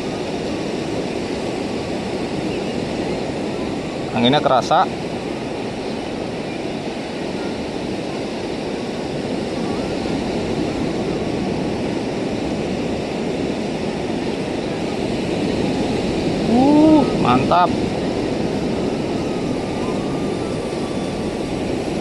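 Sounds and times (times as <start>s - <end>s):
surf washing over rocks: 0.0s - 22.0s
wind on microphone: 0.0s - 22.0s.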